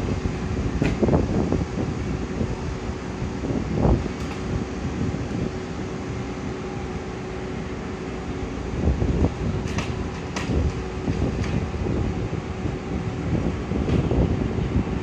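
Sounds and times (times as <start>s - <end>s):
train cars rolling: 0.0s - 15.0s.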